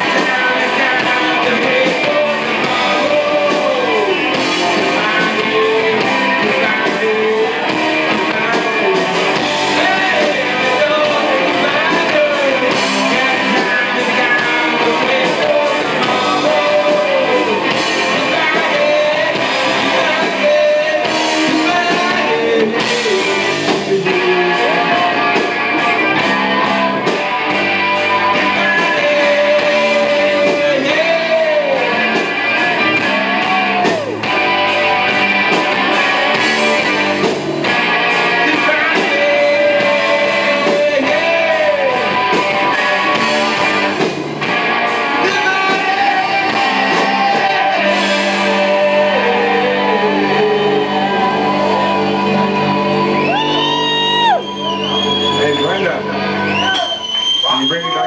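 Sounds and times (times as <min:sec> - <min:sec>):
person singing: 0:00.0 - 0:27.2, 0:28.1 - 0:44.0, 0:45.0 - 0:55.6
drums: 0:00.0 - 0:58.0
electric guitar: 0:00.0 - 0:58.0.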